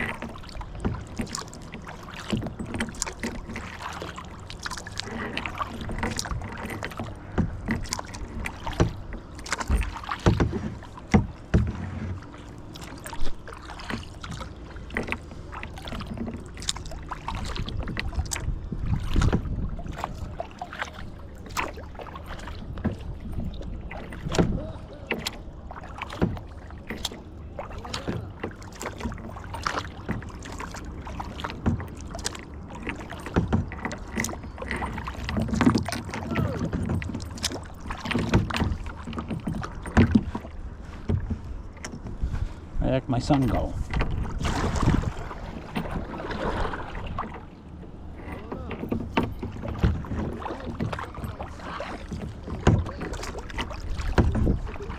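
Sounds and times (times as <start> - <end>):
water washing: 0.0 - 42.0, 42.9 - 54.9
paddle knocks: 0.0 - 54.9
paddle splashing in water: 0.0 - 54.9.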